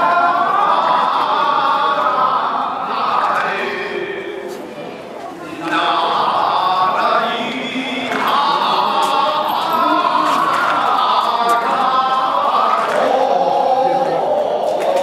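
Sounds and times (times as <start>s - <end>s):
group of voices chanting: 0.0s - 4.7s, 5.4s - 15.0s.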